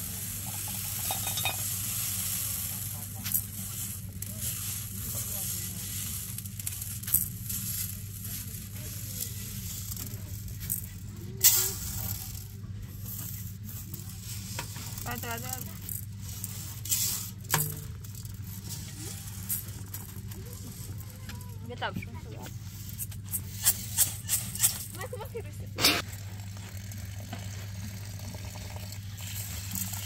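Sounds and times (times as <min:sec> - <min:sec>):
beans rattling on metal tray: 0:00.0 - 0:30.0.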